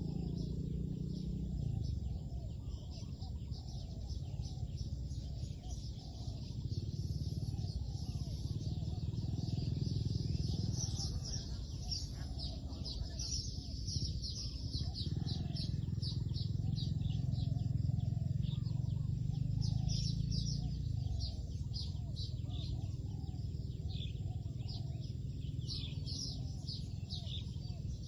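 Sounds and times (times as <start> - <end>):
doves cooing: 0.0 - 28.0
small birds chirping: 0.0 - 28.0
steady low rumble: 0.0 - 28.0.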